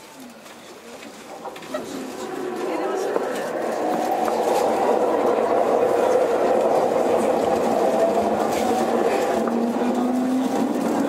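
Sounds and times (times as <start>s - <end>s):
electric train rumble: 1.2s - 11.0s
traction motor whine: 1.4s - 11.0s.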